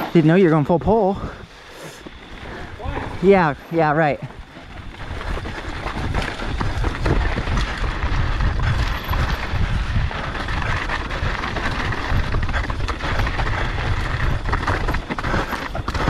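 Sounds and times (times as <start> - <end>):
wind buffeting microphone: 0.6 - 16.0
tyres rushing on gravel: 1.9 - 16.0
bike knocks and rattles: 2.0 - 16.0.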